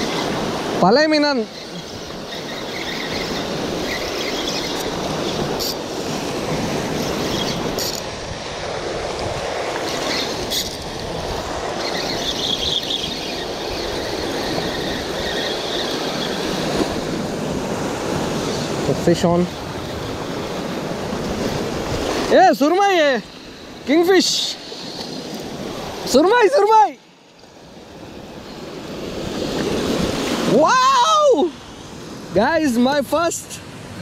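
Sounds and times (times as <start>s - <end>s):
surf washing against rocks: 0.0s - 34.0s.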